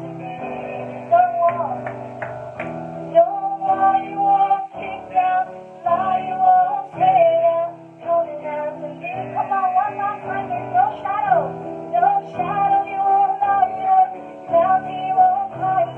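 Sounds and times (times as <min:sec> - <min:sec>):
person singing long notes: 0:00.0 - 0:15.9.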